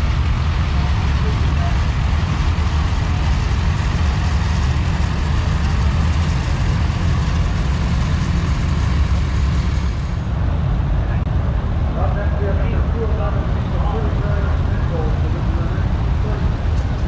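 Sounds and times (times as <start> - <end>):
tractor engines rumbling: 0.0 - 17.0.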